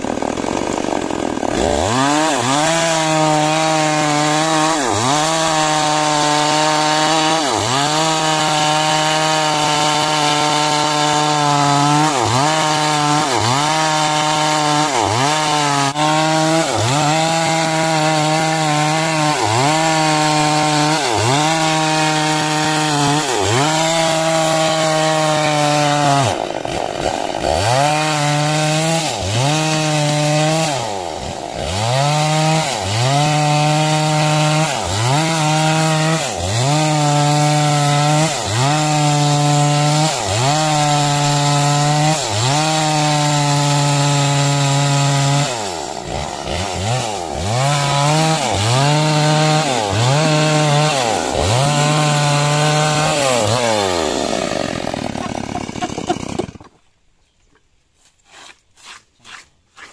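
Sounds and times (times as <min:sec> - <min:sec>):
chainsaw cutting wood: 0:00.0 - 0:56.9, 0:58.0 - 0:59.9.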